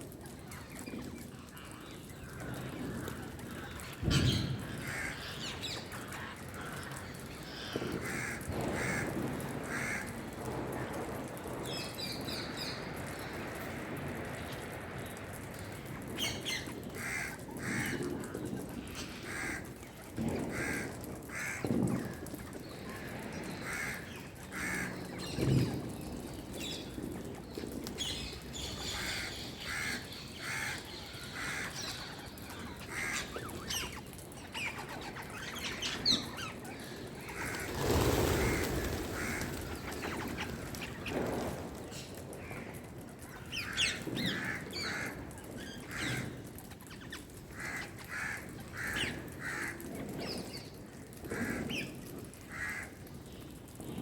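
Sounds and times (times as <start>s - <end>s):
birds harsh calls: 0.6s - 10.4s, 16.2s - 53.0s.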